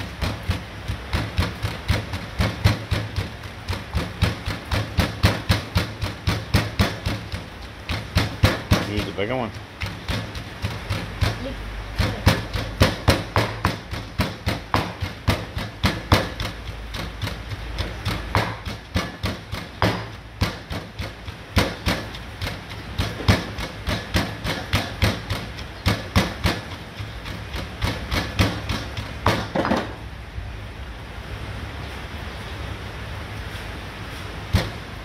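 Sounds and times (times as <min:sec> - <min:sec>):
mortar and pestle pounding: 0:00.0 - 0:30.1, 0:34.4 - 0:35.0.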